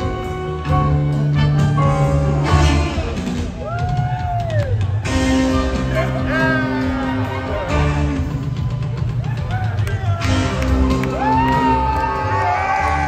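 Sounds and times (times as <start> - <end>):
drum kit: 0.0 - 13.0
upright bass: 0.0 - 13.0.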